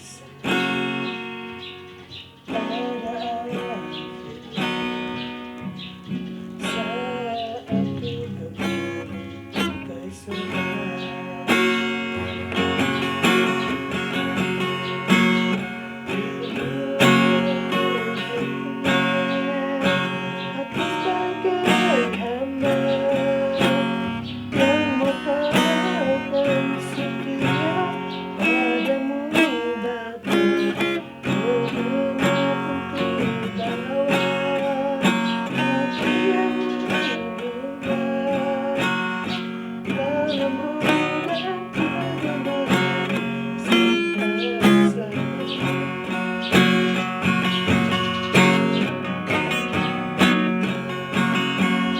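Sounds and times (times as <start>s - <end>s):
acoustic guitar strumming chords: 0.0s - 51.9s.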